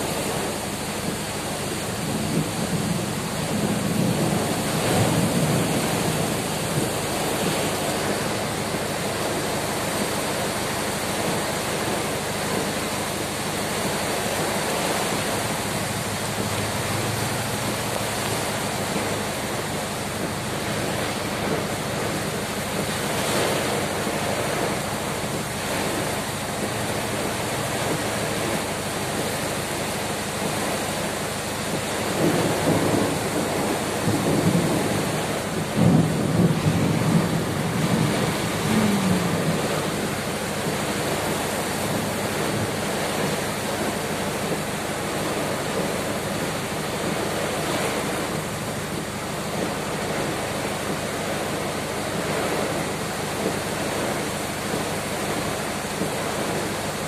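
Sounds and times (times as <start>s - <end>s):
heavy rain pouring: 0.0s - 57.0s
strong wind through trees: 0.0s - 57.0s.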